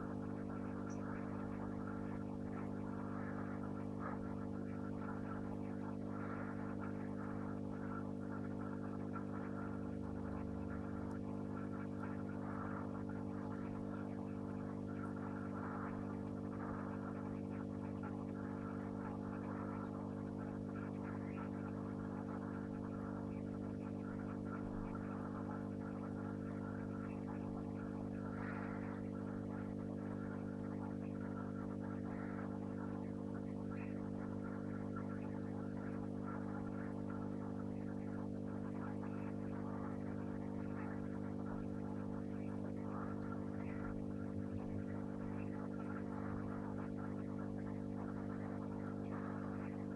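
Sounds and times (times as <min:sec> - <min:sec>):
aquarium equipment electrical hum: 0:00.0 - 0:49.9.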